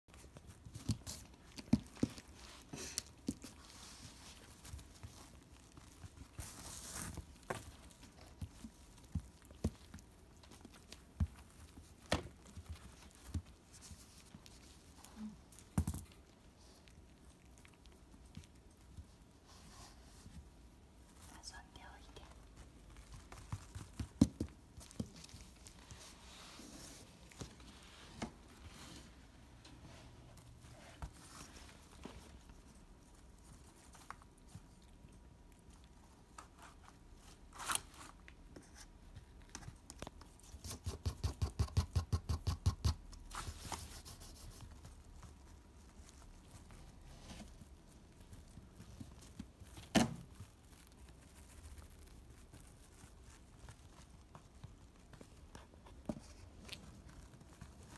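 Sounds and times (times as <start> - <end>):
puppy paws tapping and scraping: 0.0 - 57.9.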